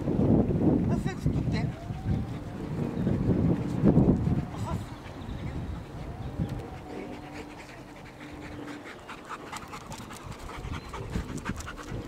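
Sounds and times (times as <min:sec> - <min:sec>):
dog panting: 0:01.3 - 0:12.0.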